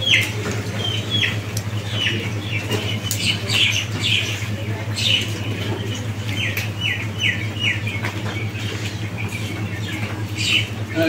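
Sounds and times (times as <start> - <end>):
bird chirping: 0.0 - 11.0
steady low hum: 0.0 - 11.0.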